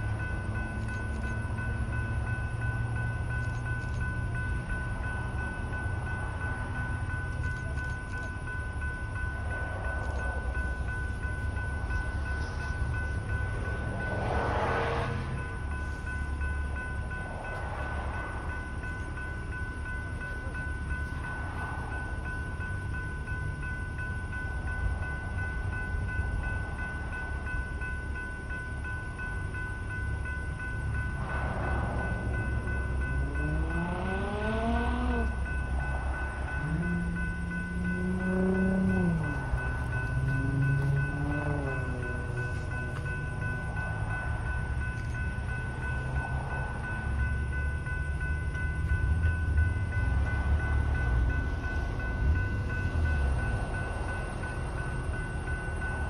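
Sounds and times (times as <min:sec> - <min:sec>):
crossing signal bells ringing: 0:00.0 - 0:56.0.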